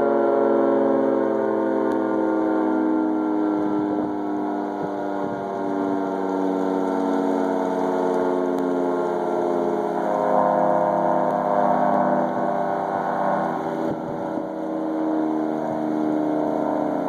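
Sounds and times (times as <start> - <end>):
tornado siren steady tone: 0.0 - 17.0.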